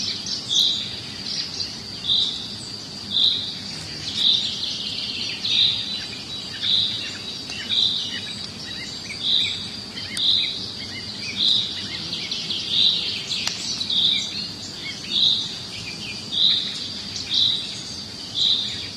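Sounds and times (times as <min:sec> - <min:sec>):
high insect drone: 0:00.0 - 0:18.9
small bird chirps: 0:00.0 - 0:18.9.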